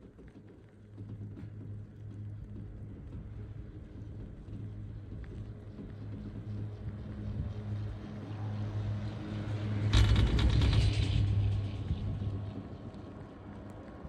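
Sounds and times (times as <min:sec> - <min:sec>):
steady low hum: 0:00.7 - 0:14.0.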